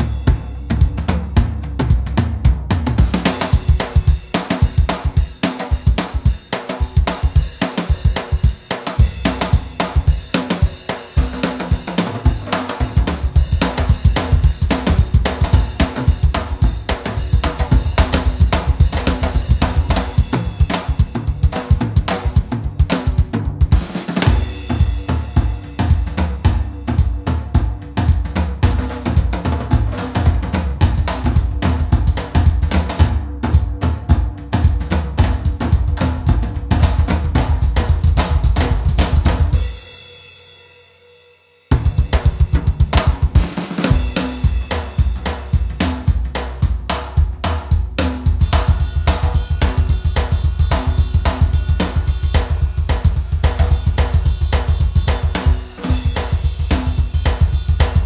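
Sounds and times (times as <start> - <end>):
drum-kit track with steady beat: 0.0 - 58.0.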